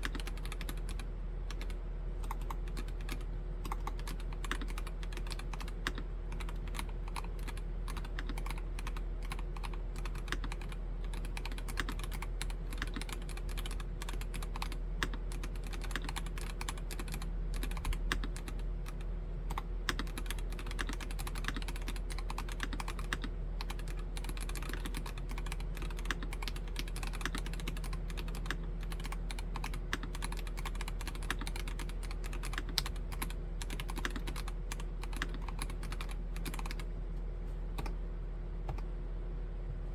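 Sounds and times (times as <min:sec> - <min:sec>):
mechanical keyboard typing: 0:00.0 - 0:36.9.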